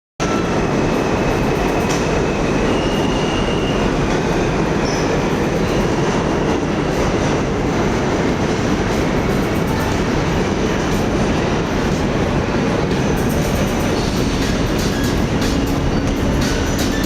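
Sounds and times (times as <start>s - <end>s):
subway train rumbling: 0.2s - 17.0s.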